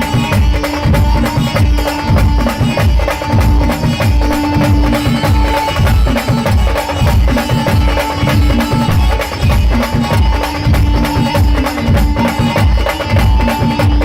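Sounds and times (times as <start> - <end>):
heavy drum beat: 0.0 - 14.0.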